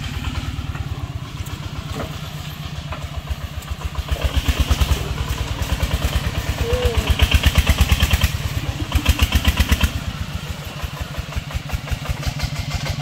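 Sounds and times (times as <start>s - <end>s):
diesel engine thumping: 0.0s - 13.0s.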